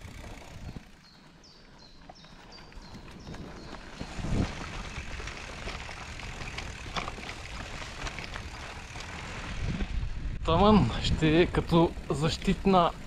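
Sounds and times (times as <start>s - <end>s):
bike clicks and rattles: 0.0s - 10.1s, 11.2s - 13.0s
tyre and wind rumble: 0.0s - 13.0s.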